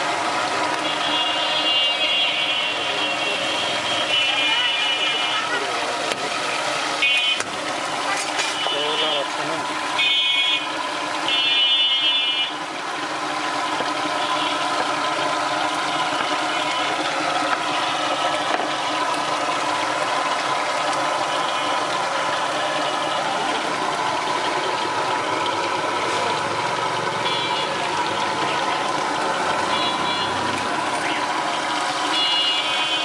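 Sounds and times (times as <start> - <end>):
skewers sizzling in oil: 0.0 - 33.0
traffic engine hum: 0.0 - 33.0.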